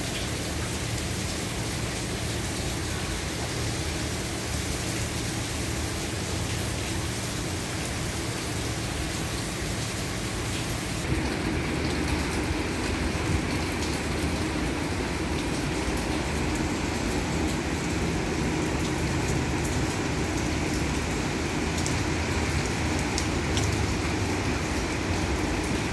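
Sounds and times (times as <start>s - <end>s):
heavy rain on a roof: 0.0s - 25.9s
water running off eaves: 0.0s - 25.9s.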